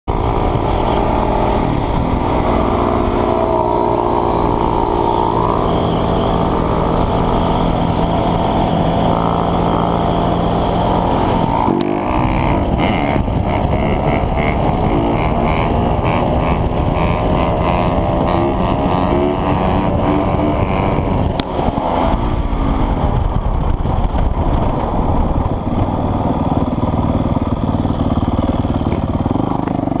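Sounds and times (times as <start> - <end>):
dirt bike engine running: 0.1 - 30.0.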